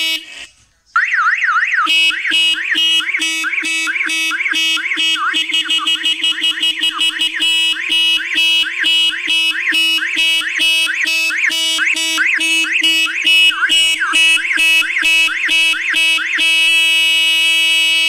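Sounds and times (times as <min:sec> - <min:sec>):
buzzy car horn: 0:00.0 - 0:00.5, 0:01.9 - 0:18.0
electronic siren sweeping: 0:00.0 - 0:18.0.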